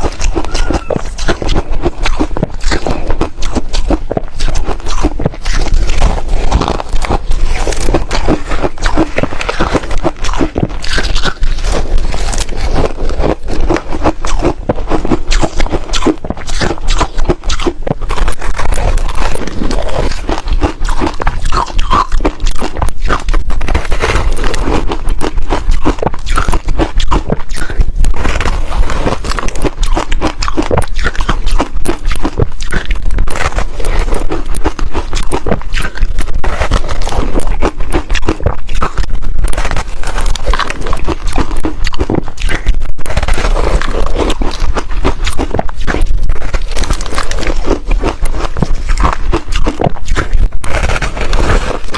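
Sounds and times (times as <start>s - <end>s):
ice being chewed: 0.0s - 51.9s.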